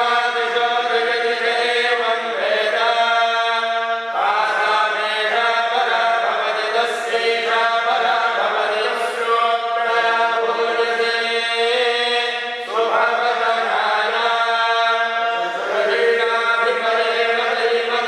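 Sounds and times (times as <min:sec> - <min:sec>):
priests chanting: 0:00.0 - 0:18.0.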